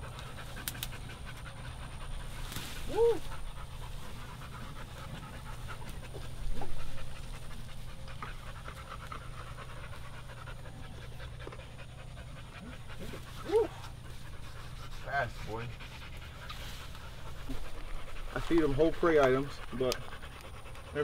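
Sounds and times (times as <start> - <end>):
dog panting: 0.0 - 2.5, 3.2 - 21.0.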